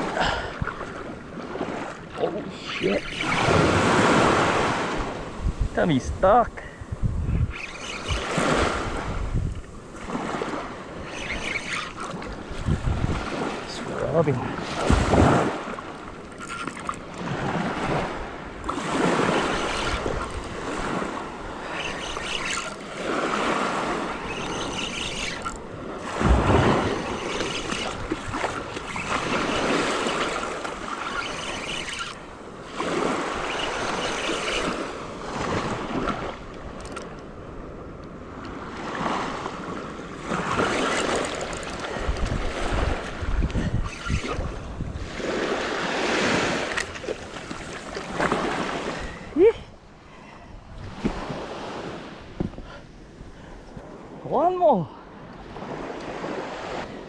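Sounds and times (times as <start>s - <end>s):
wind gusting on microphone: 0.0s - 49.4s, 50.4s - 54.5s
small waves washing on shore: 0.0s - 57.0s.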